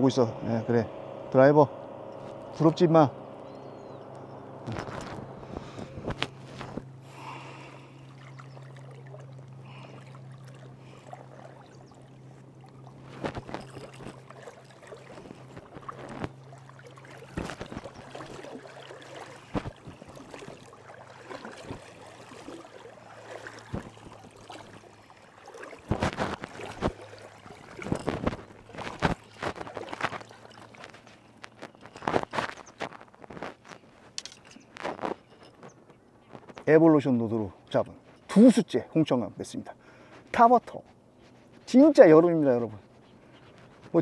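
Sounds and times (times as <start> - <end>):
distant motorboat engine hum: 0.0 - 44.0
wading through shallow water: 0.0 - 44.0.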